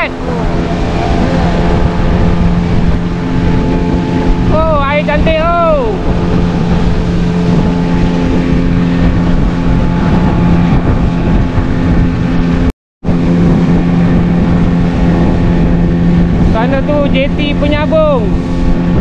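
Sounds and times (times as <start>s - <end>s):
motorboat engine running: 0.0s - 19.0s
wind and water rushing: 0.0s - 19.0s.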